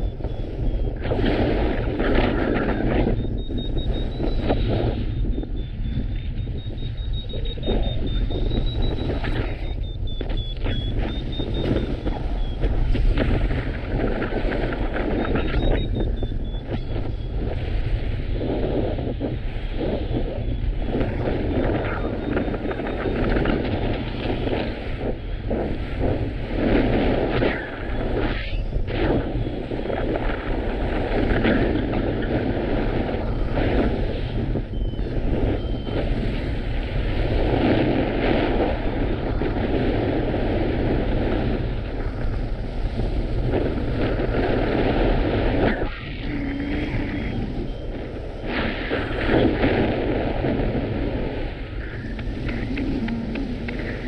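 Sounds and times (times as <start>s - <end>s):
gusting wind on microphone: 0.0s - 54.0s.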